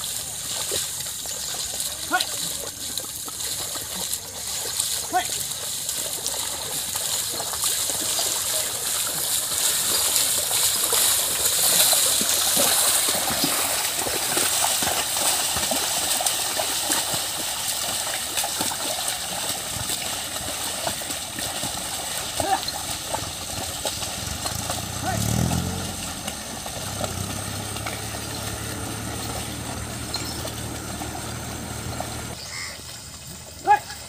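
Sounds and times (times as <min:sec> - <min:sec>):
water and mud sloshing: 0:00.0 - 0:34.0.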